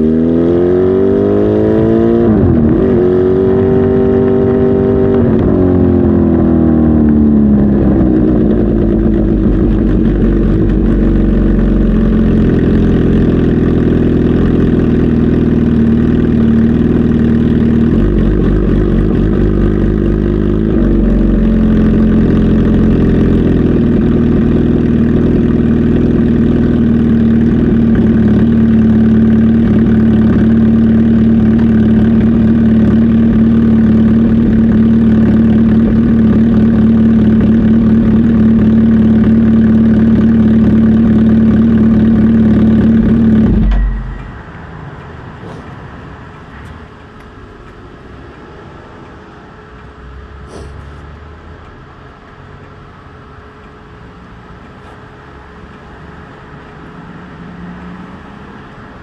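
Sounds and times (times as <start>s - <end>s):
motorcycle engine revving and idling: 0.0s - 48.7s.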